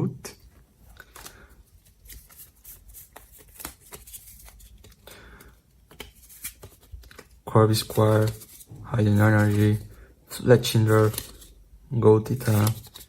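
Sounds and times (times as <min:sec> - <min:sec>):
cards being flipped through: 0:00.4 - 0:11.6, 0:12.2 - 0:13.0.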